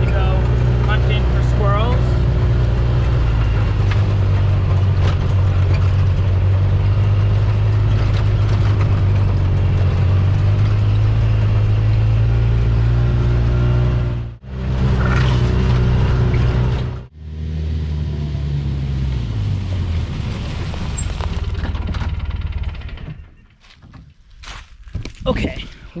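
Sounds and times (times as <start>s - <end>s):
car engine and road hum: 0.0s - 25.0s.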